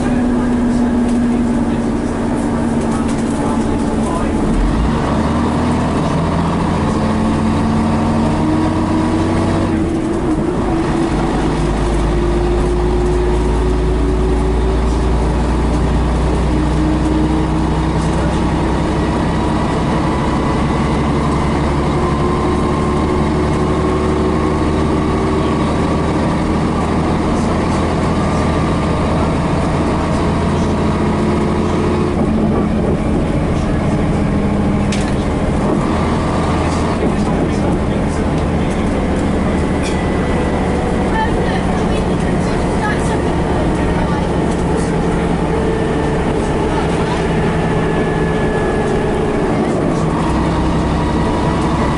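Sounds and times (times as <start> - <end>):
bus diesel engine: 0.0 - 51.9.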